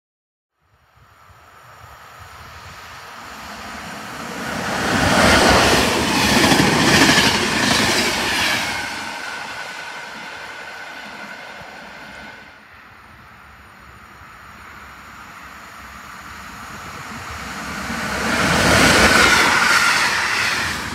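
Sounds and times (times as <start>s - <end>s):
train rumble: 1.0s - 20.9s.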